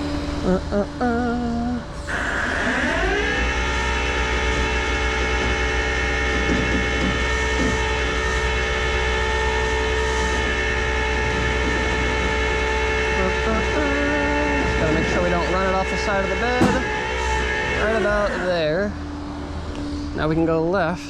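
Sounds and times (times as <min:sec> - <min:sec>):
hydraulics droning whine: 0:00.0 - 0:21.0
truck engine low rumble: 0:00.0 - 0:21.0.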